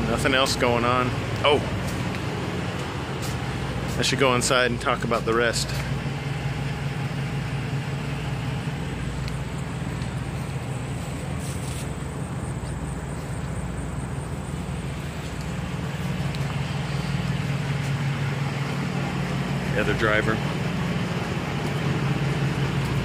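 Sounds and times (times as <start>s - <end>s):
diesel truck engines idling: 0.0s - 23.0s
highway traffic: 0.0s - 23.0s.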